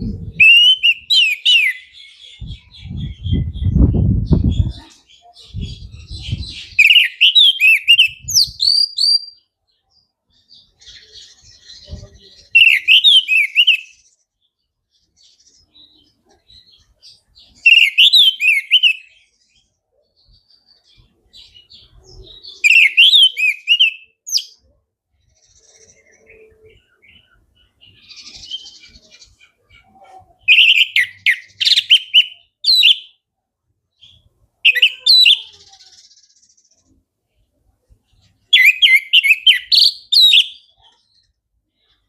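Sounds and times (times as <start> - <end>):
quiet bird twittering: 0.0 - 33.2, 33.9 - 42.0.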